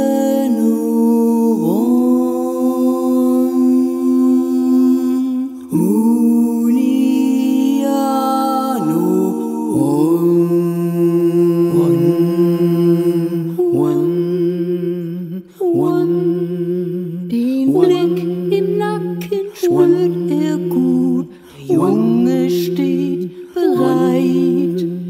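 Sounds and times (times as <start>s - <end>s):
person singing chant-like notes: 0.0s - 25.0s.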